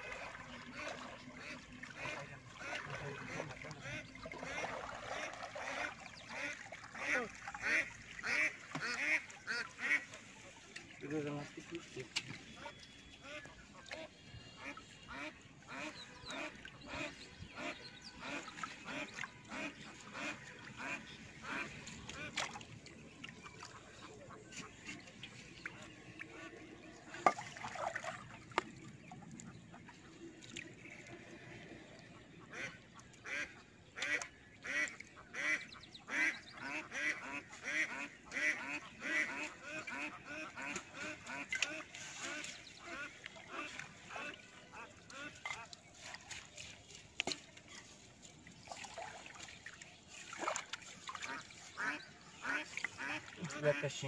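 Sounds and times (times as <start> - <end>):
ducks quacking: 0.0 - 22.7, 23.6 - 27.7, 30.8 - 46.5, 50.3 - 54.0.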